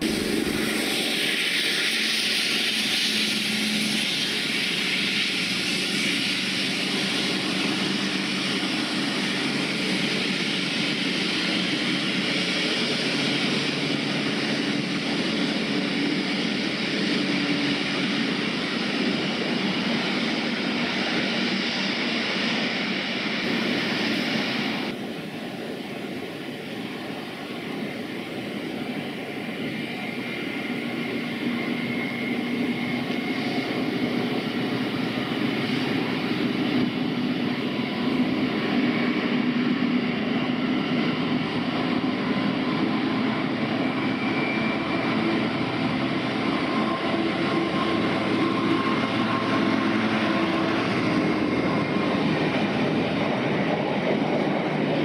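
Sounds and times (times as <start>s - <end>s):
diesel locomotive engine running: 0.0s - 55.0s
distant diesel locomotive: 0.0s - 55.0s.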